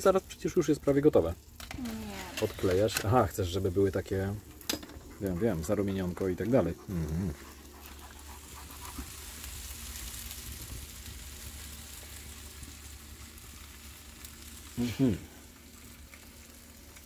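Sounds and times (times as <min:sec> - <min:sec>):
meat sizzling over charcoal: 0:00.0 - 0:17.0.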